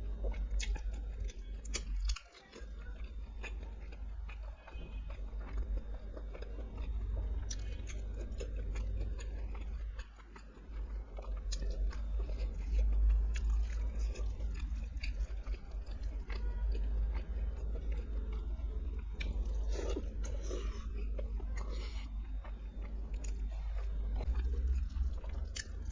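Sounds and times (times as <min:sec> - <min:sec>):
low hum: 0:00.0 - 0:25.9
person chewing food: 0:00.0 - 0:25.9.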